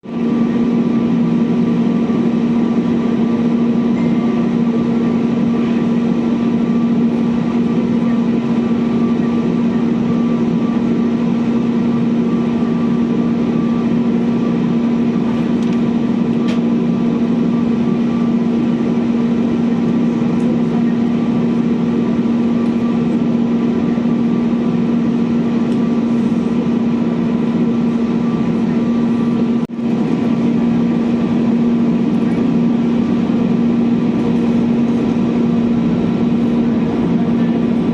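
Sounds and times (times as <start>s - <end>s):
aircraft engines droning: 0.0s - 37.9s.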